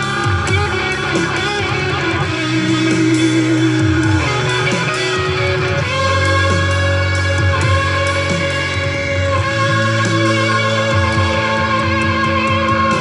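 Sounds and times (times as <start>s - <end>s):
bass line: 0.0s - 13.0s
electric guitar: 0.0s - 13.0s.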